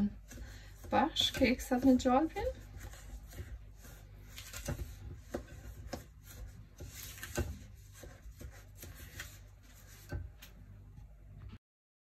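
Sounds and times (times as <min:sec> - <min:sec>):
fingers rubbing biscuit crumbs: 0:00.0 - 0:10.4.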